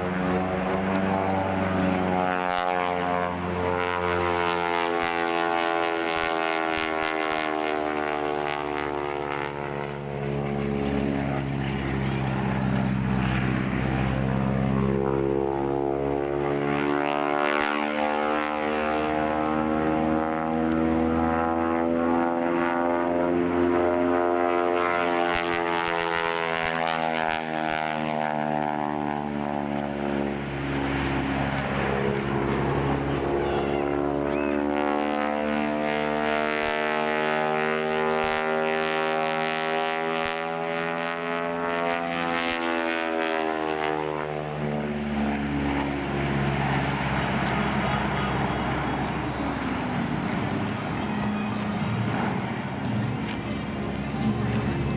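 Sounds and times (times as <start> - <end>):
propeller plane engine drone: 0.0 - 54.9.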